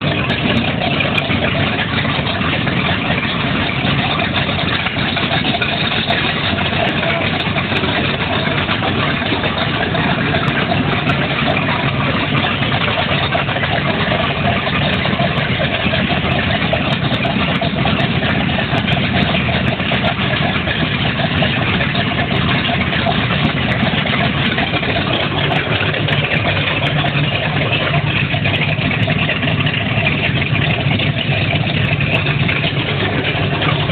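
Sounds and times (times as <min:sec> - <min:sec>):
boat engines running: 0:00.0 - 0:33.9.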